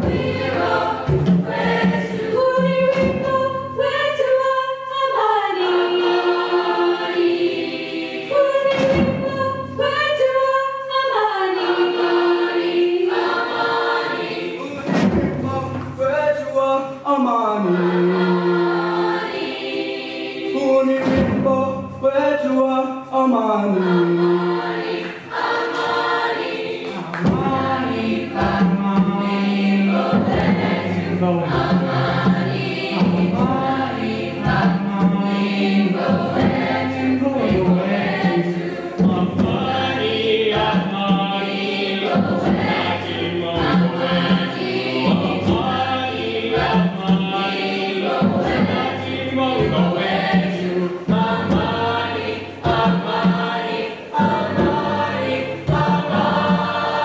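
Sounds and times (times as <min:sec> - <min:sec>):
chorus singing: 0:00.0 - 0:57.0.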